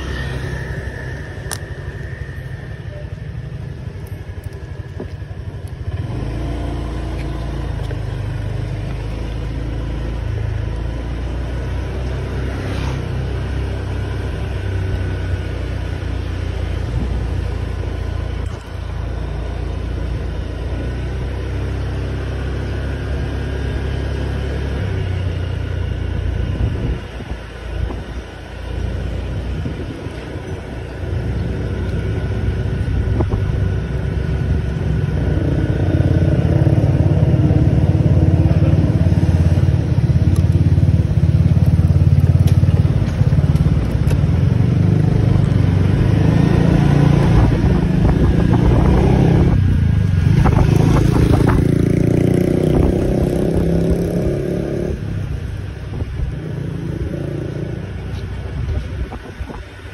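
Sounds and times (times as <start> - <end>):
motor scooter engine: 0.0 - 59.9.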